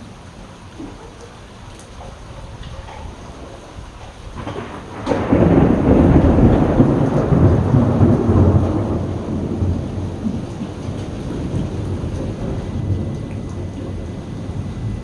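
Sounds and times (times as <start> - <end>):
steady rain: 0.0 - 15.0
thunder rumble: 0.0 - 15.0.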